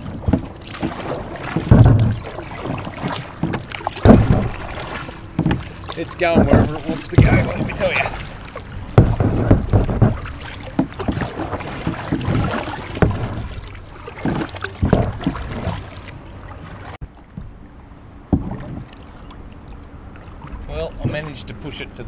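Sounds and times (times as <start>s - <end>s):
water splashing: 0.0s - 17.5s, 18.2s - 22.0s
paddle strokes: 0.0s - 17.6s, 18.3s - 22.0s.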